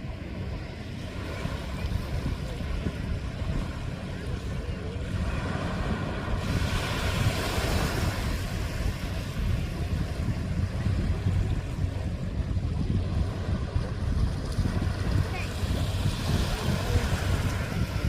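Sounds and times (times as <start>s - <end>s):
surf washing on shore: 0.0s - 18.0s
wind on microphone: 0.0s - 18.0s.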